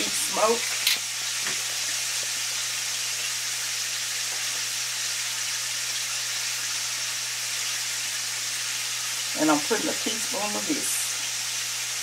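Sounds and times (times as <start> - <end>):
wings sizzling in hot oil: 0.0 - 12.0.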